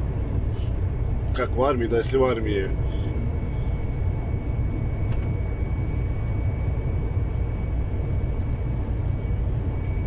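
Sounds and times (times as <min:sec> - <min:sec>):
faint high whine: 0:00.0 - 0:10.0
truck engine drone and road noise: 0:00.0 - 0:10.0.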